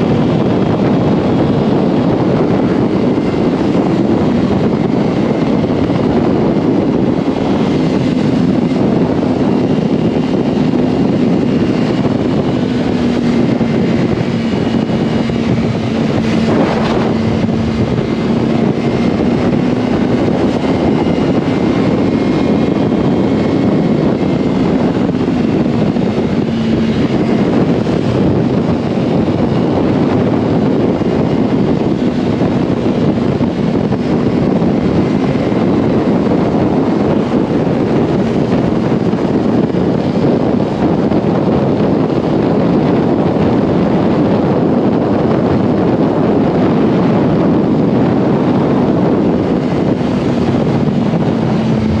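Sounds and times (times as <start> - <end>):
motorcycle engine running: 0.0 - 52.0
wind rush on microphone: 0.0 - 52.0.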